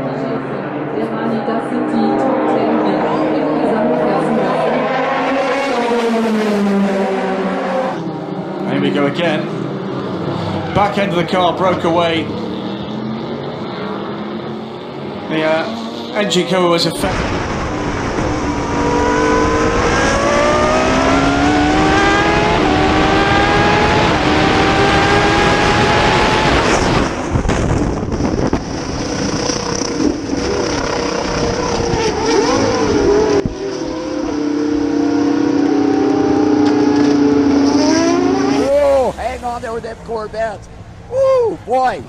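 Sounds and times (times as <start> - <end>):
racing car engines at full throttle: 0.0 - 42.0.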